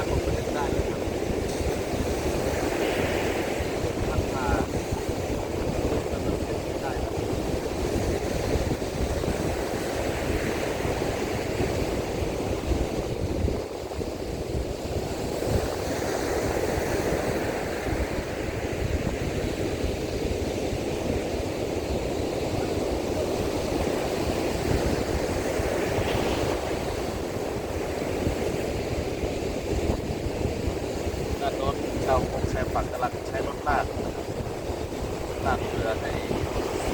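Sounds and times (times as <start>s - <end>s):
surf breaking on beach: 0.0s - 36.9s
wind rumbling on microphone: 0.0s - 36.9s.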